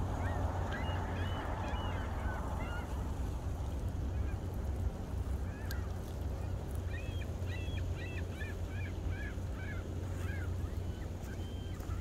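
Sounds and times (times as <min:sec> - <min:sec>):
gulls calling: 0:00.0 - 0:12.0
steady low rumble: 0:00.0 - 0:12.0.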